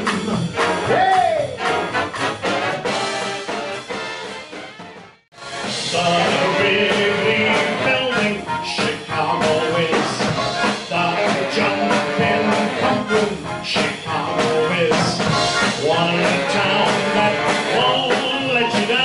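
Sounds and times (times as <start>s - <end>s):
big band playing: 0.0s - 19.0s.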